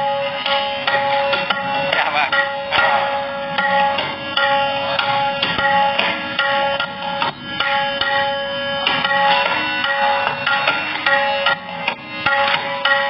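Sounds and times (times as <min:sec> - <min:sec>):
steady held drone tone: 0:00.0 - 0:13.0
tabla drumming: 0:00.0 - 0:13.0.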